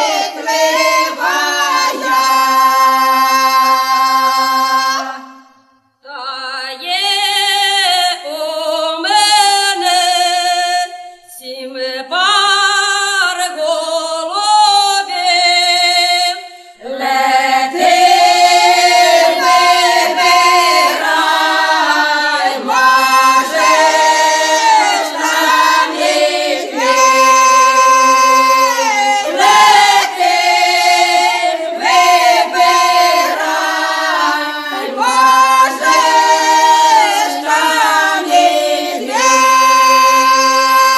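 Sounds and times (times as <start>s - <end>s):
choir singing a cappella: 0.0s - 40.9s.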